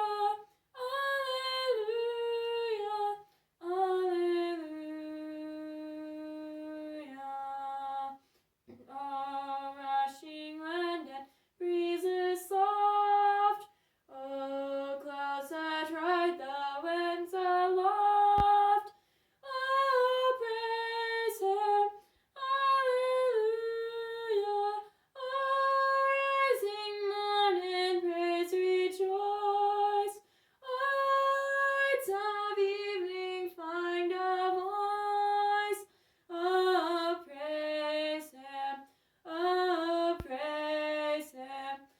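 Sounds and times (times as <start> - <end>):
woman singing unaccompanied: 0.0 - 41.9.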